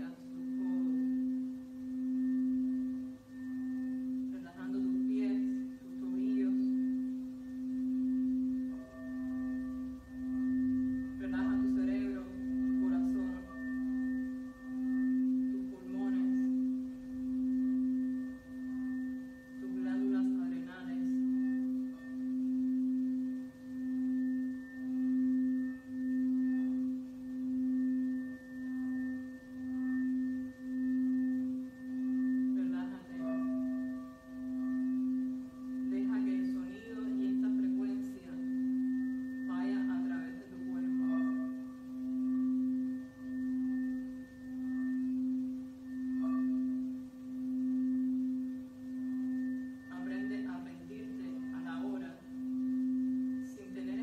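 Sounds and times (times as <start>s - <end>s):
crystal singing bowl tone: 0.0s - 54.0s.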